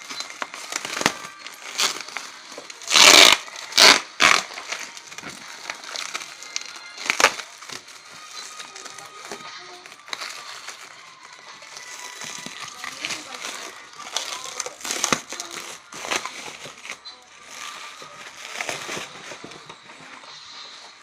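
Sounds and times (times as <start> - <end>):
packing material ripping: 0.0 - 19.8
packing material crinkling: 0.0 - 21.0.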